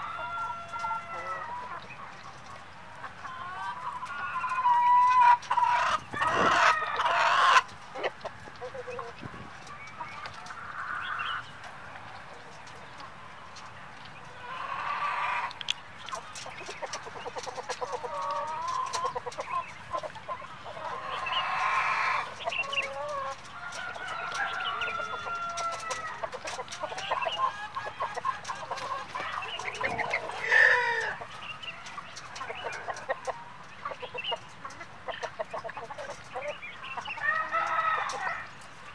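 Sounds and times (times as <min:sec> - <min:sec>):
chickens clucking and calling: 0:00.0 - 0:38.9.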